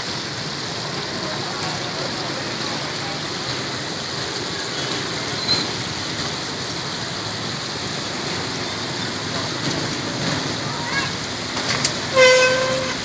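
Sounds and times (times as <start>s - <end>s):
oil sizzling in a deep fryer: 0.0s - 13.0s
street traffic rumble: 0.0s - 13.0s.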